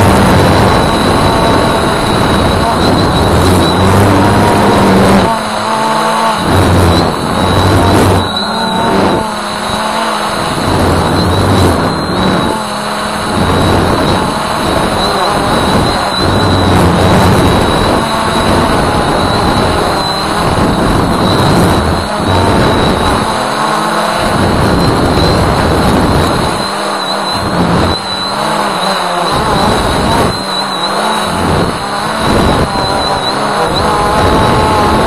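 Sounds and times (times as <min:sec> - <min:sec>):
wind buffeting microphone: 0:00.0 - 0:30.5, 0:31.3 - 0:35.0
drone motors whining: 0:00.0 - 0:35.0.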